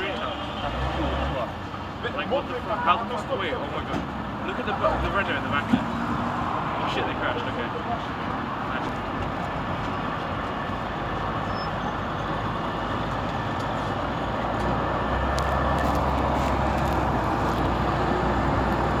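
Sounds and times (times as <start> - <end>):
heavy vehicle engine rumbling: 0.0 - 19.0
street traffic: 0.0 - 19.0.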